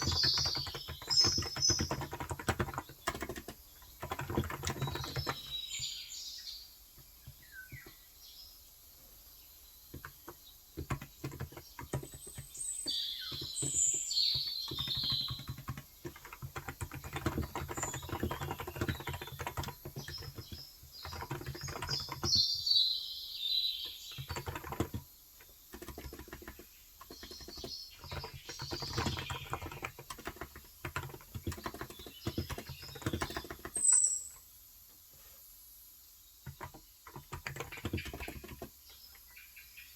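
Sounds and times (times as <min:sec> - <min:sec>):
keyboard typing: 0:00.0 - 0:06.0, 0:09.9 - 0:22.7, 0:23.8 - 0:34.4, 0:36.4 - 0:39.2
small birds chirping: 0:00.0 - 0:39.9.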